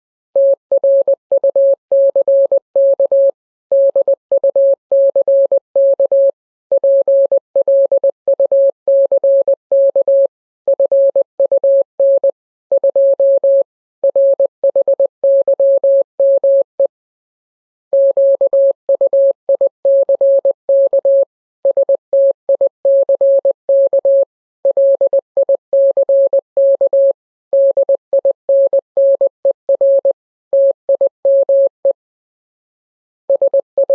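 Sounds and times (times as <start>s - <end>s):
morse code beeps: 0.4s - 16.9s, 18.0s - 32.0s, 33.3s - 33.9s.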